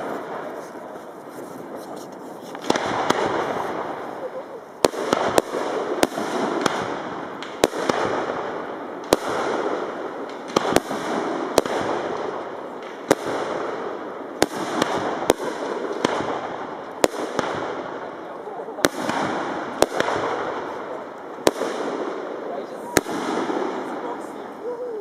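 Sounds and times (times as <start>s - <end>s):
fireworks hissing and crackling: 0.0s - 25.0s.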